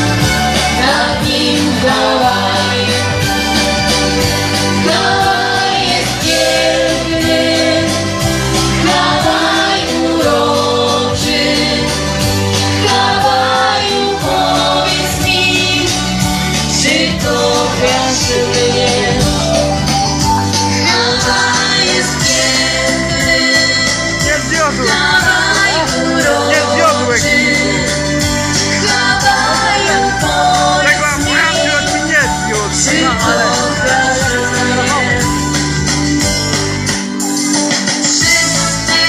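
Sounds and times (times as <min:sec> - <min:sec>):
loud amplified music: 0:00.0 - 0:39.0
women singing into microphones: 0:00.6 - 0:03.4, 0:04.7 - 0:19.6, 0:20.3 - 0:24.2, 0:24.9 - 0:31.6, 0:32.8 - 0:35.5, 0:38.2 - 0:39.0.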